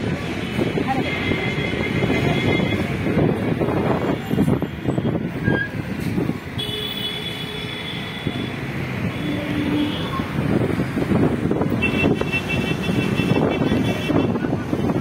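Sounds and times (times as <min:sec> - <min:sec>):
dense road traffic: 0:00.0 - 0:15.0.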